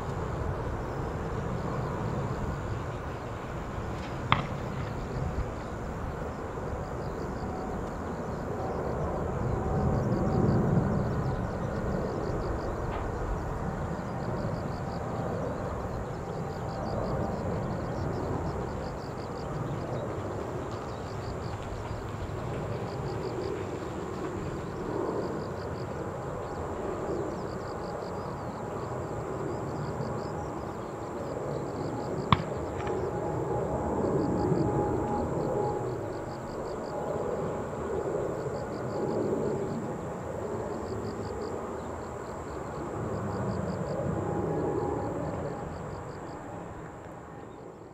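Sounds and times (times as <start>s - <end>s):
distant jet engine rumble: 0.0s - 47.9s.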